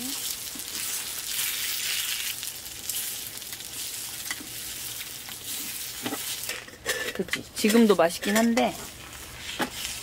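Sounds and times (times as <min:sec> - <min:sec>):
eggs sizzling in a pan: 0:00.0 - 0:10.0
tongs scraping a pan: 0:00.2 - 0:10.0.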